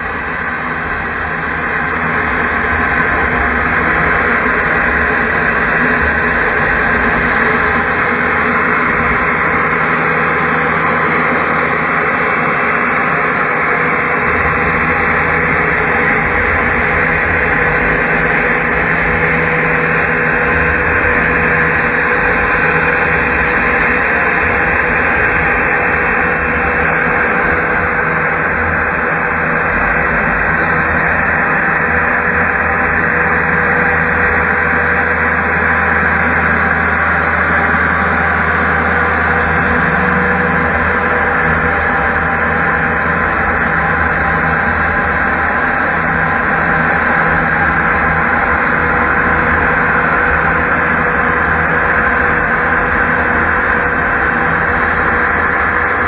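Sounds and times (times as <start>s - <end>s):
router spindle whine: 0.0s - 56.0s.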